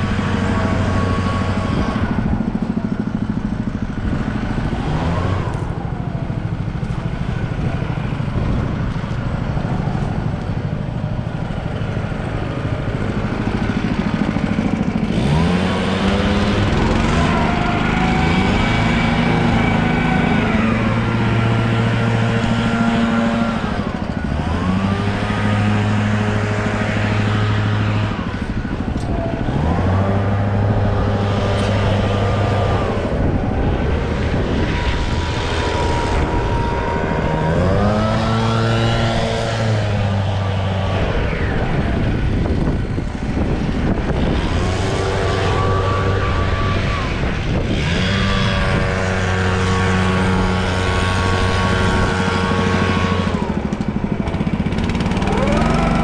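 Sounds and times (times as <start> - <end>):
small gasoline engine revving: 0.0 - 56.0.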